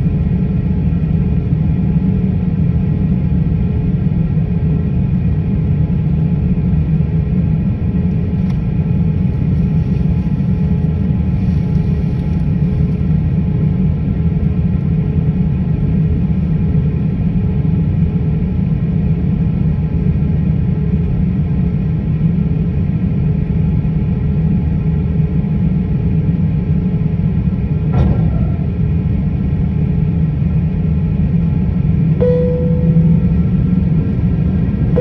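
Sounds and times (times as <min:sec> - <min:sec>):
jet cabin low rumble: 0:00.0 - 0:35.0
jet engines whining at idle: 0:00.0 - 0:35.0.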